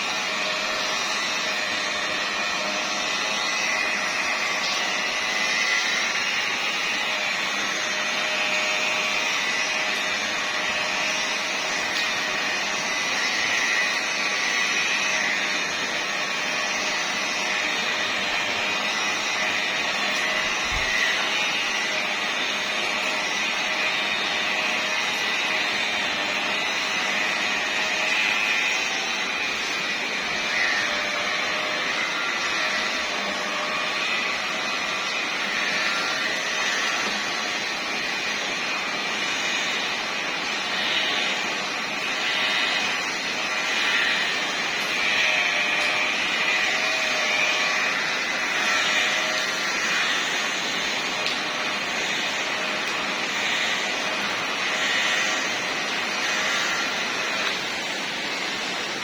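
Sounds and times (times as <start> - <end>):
car polishing machine whine: 0.0 - 59.0.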